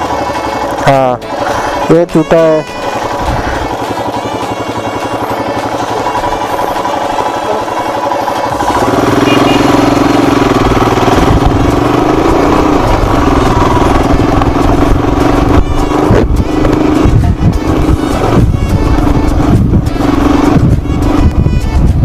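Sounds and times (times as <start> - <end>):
motorcycle engine thumping: 2.6 - 22.0.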